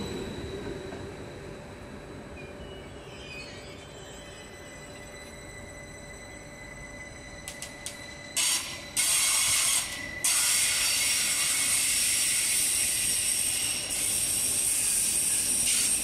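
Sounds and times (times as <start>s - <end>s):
train passing with hissing rush: 0.0s - 16.0s.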